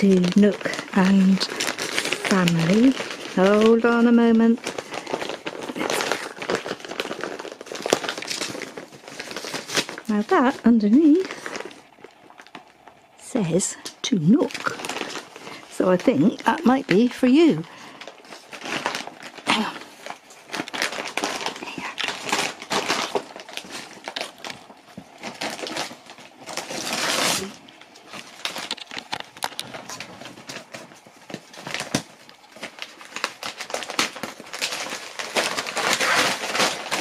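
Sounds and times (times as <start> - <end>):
paper crinkling and tearing: 0.0 - 13.0, 14.3 - 37.0.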